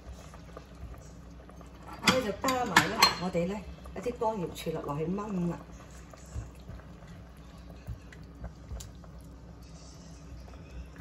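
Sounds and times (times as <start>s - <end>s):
liquid simmering in a pan: 0.0s - 11.0s.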